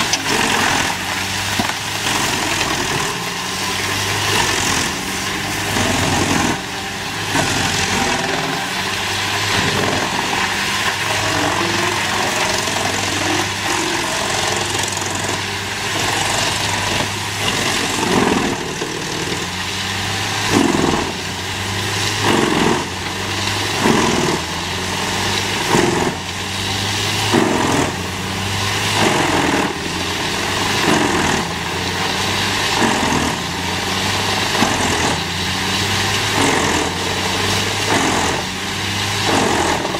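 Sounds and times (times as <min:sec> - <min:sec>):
loud bursts of wood breaking: 0:00.0 - 0:39.9
wood chipper engine running: 0:00.0 - 0:39.9.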